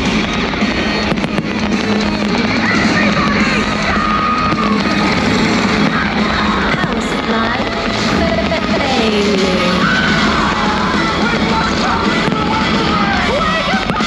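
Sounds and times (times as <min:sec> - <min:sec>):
fireworks bangs: 0:00.0 - 0:14.0
music over public address: 0:00.0 - 0:14.0.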